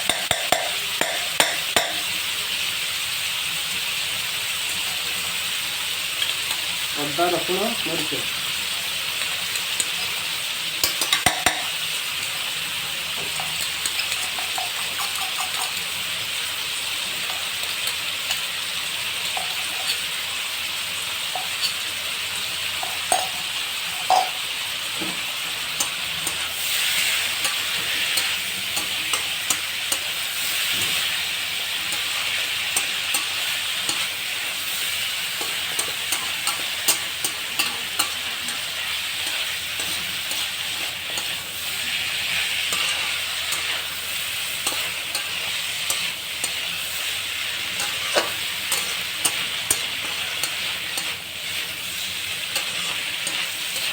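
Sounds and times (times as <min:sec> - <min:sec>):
spoon scraping a pan: 0:00.0 - 0:02.2, 0:09.2 - 0:12.5, 0:13.1 - 0:53.9
chicken sizzling in a pan: 0:00.0 - 0:53.9.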